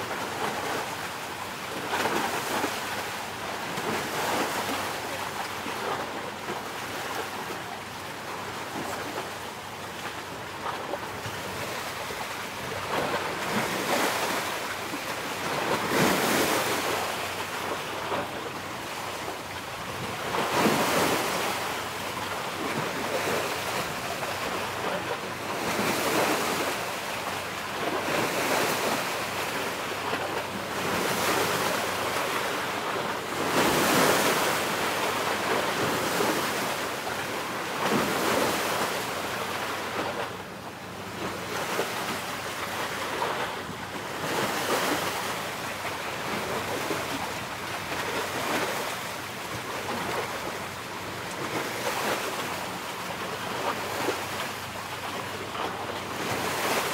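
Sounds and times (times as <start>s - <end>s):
sea surf: 0.0s - 56.9s
wind: 0.0s - 56.9s.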